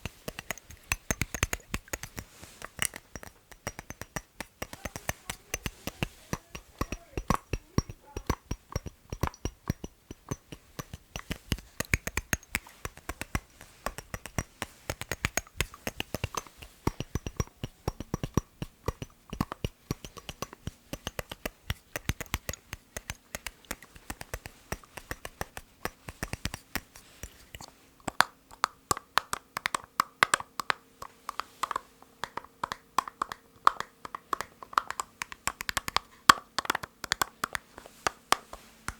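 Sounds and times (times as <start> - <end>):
fingernails tapping on object: 0.0 - 38.9.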